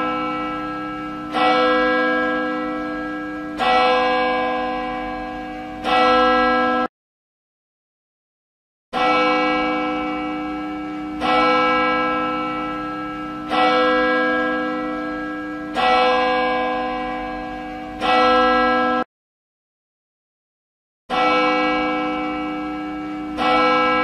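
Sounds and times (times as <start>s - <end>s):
church bell tolling: 0.0s - 6.9s, 9.0s - 19.1s, 21.1s - 24.0s.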